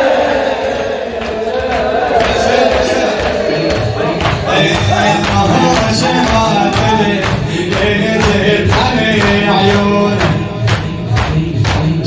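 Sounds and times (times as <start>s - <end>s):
mourning chant melody: 0.0s - 12.0s
rhythmic sharp strikes: 1.2s - 12.0s.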